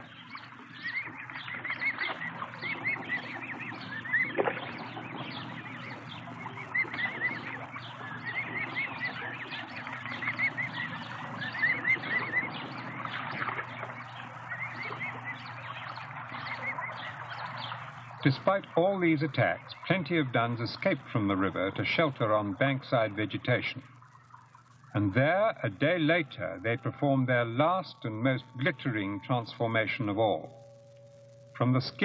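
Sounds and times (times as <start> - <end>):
cygnets peeping: 0.0 - 32.0
low hum: 0.0 - 32.0.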